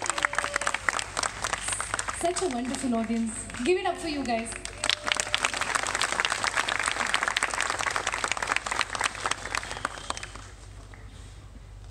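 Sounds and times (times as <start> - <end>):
audience clapping: 0.0 - 11.1.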